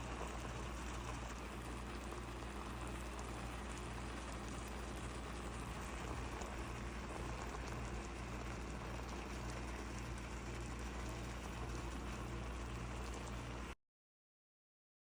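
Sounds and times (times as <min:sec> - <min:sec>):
pot simmering with bubbling hiss: 0:00.0 - 0:13.8.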